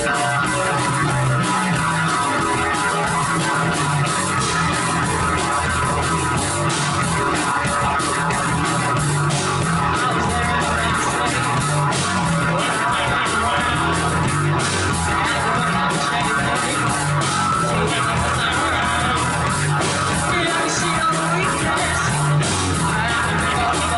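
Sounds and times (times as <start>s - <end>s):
drum kit with cymbal hits: 0.0s - 23.9s
electric guitar: 0.0s - 23.9s.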